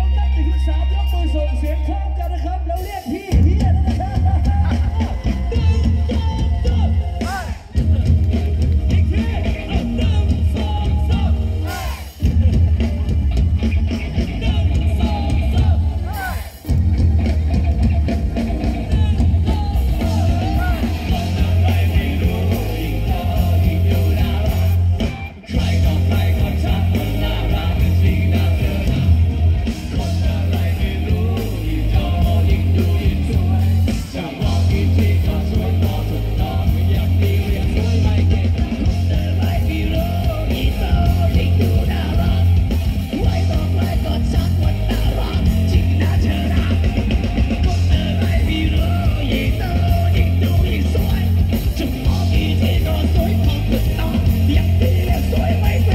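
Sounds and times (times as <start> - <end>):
person singing and shouting: 0.0 - 16.8, 18.6 - 55.9
bass guitar: 0.0 - 55.9
drums: 0.0 - 55.9
electric guitar: 0.0 - 55.9
keyboard: 0.0 - 55.9.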